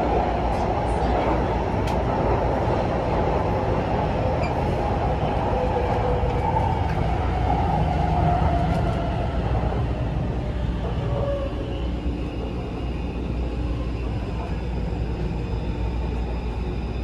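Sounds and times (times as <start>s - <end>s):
faint train whine: 0.0s - 17.0s
subway train wheels rumbling: 0.0s - 17.0s.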